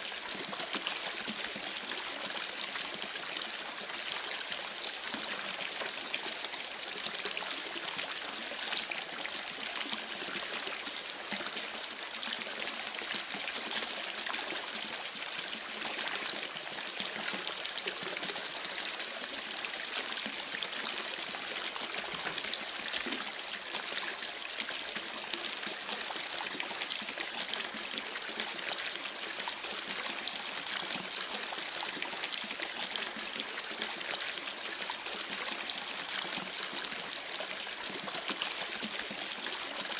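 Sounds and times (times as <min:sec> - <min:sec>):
babbling creek: 0:00.0 - 0:39.9.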